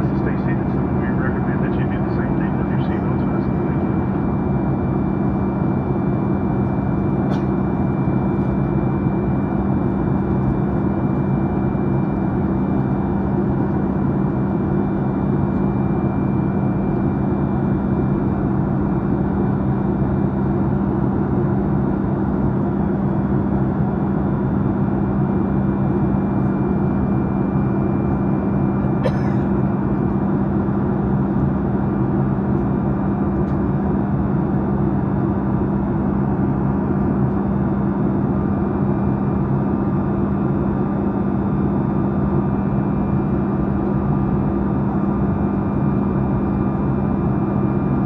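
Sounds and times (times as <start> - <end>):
airplane cabin drone: 0.0 - 48.0.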